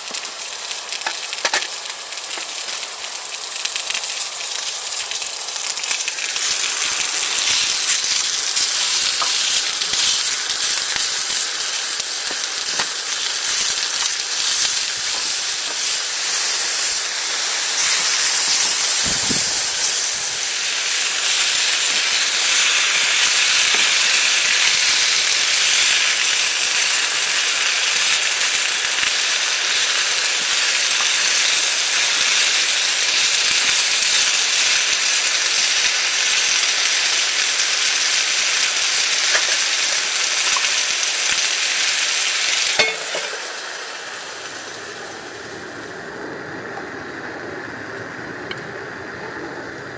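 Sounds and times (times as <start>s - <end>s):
food sizzling: 0.0s - 46.3s.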